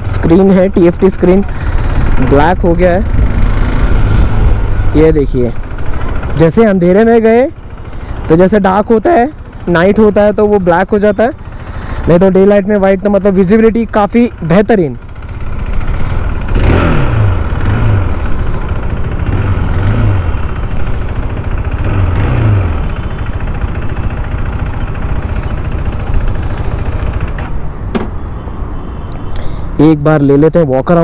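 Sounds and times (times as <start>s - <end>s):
motorcycle engine at low speed: 0.0s - 31.0s.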